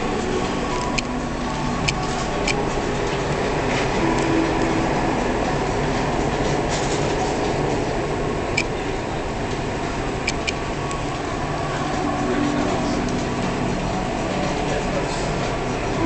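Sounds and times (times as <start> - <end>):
metro train rumble from inside: 0.0 - 16.0.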